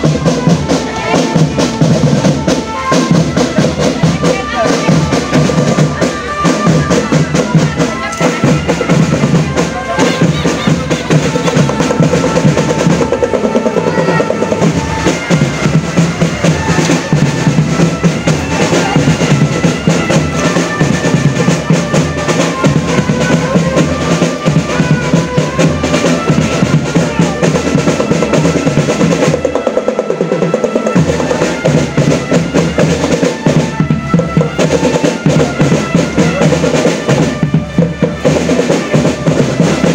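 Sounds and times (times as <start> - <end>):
marching drum band: 0.0 - 39.9
snare and bass drums: 0.0 - 39.9.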